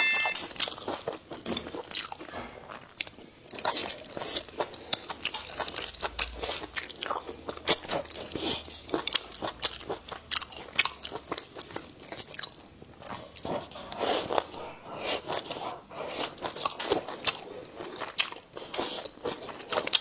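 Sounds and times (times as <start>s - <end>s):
crunchy chewing: 1.0s - 20.0s.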